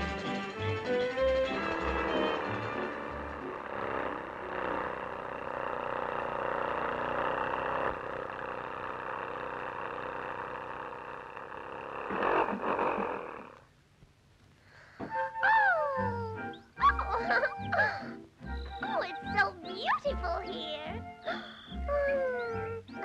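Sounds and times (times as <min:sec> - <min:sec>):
cartoon car engine chugging: 0:00.0 - 0:13.7, 0:15.5 - 0:23.0.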